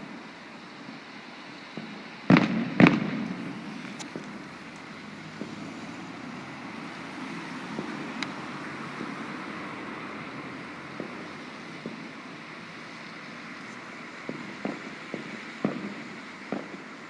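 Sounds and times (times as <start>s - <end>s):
distant fireworks popping: 0.0s - 9.5s, 10.1s - 17.0s
steady outdoor hiss: 0.0s - 17.0s.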